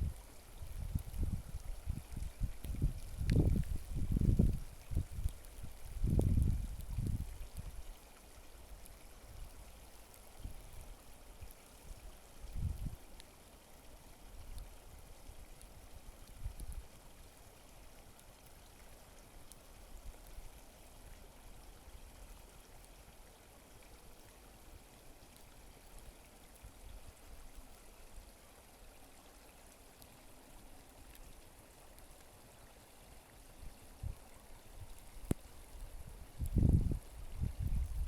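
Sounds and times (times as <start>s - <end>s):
creek running: 0.0s - 38.0s.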